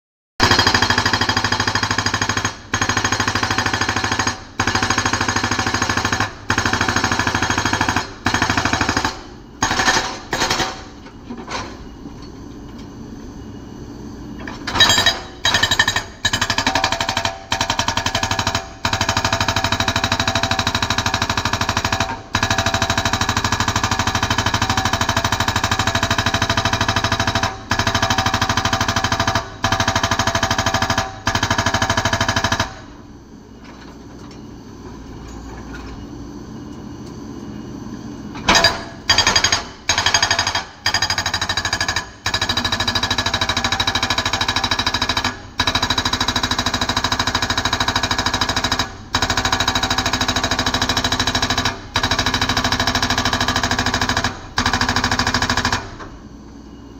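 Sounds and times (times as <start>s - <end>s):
hydraulic rock breaker hammering: 0.4s - 11.0s, 14.6s - 32.9s, 38.4s - 56.1s.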